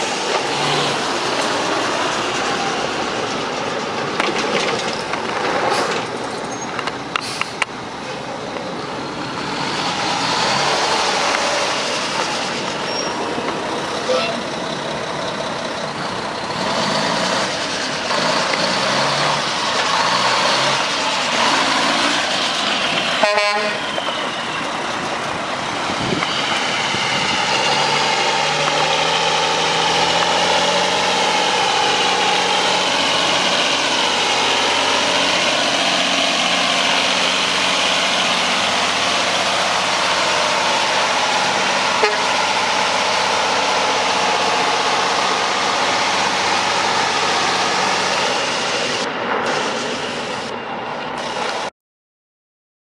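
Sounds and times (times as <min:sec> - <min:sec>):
truck diesel engine running: 0:00.0 - 0:51.5.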